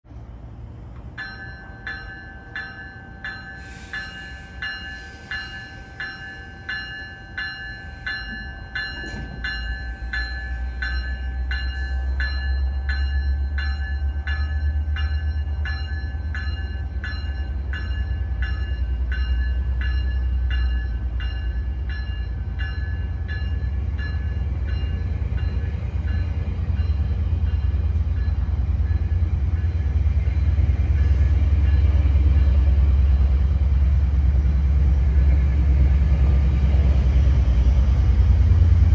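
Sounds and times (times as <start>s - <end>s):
diesel locomotive rumble: 0.0s - 38.9s
train bell ringing: 1.1s - 38.9s.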